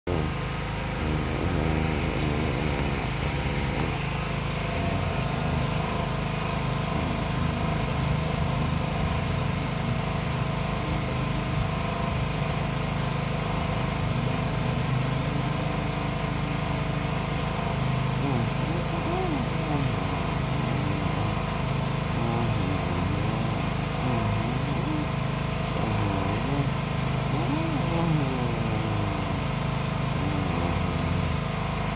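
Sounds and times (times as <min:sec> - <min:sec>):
engine humming steadily: 0:00.0 - 0:31.9.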